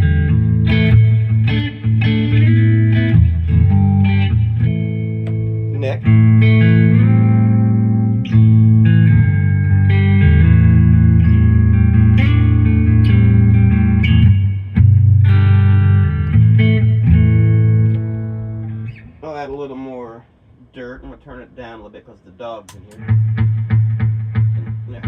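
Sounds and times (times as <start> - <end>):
electric guitar chords: 0.0 - 19.2, 22.7 - 25.0.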